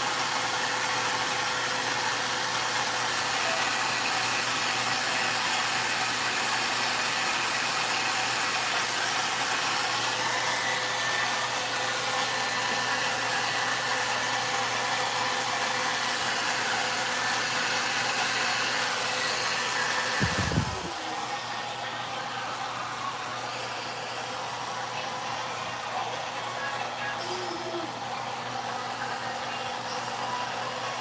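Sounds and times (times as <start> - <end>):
hair dryer blowing air: 0.0 - 31.0.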